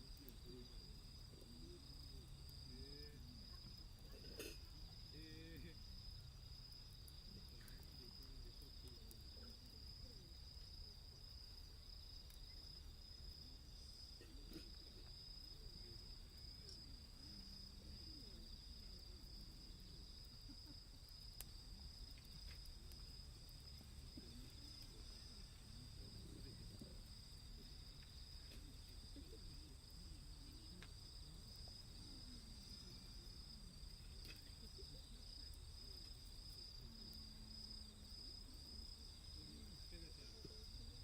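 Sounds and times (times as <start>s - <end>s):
night insects trilling: 0.0s - 41.0s
wood fire crackling: 0.0s - 41.0s.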